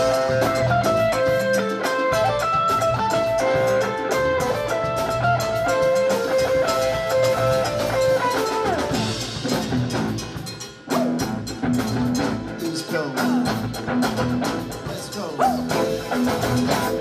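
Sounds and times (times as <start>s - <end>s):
drum kit and percussion beat: 0.0s - 17.0s
electric guitar lead: 0.0s - 17.0s.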